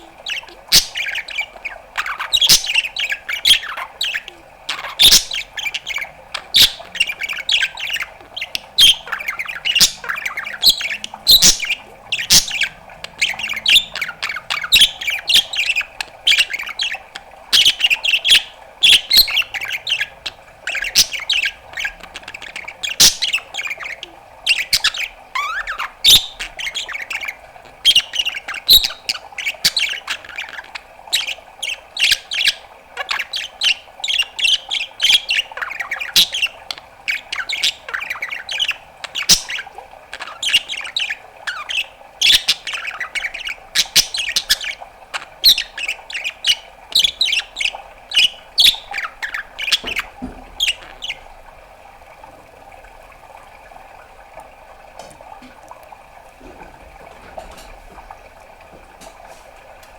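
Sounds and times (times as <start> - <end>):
budgerigar chattering: 0.0 - 51.4.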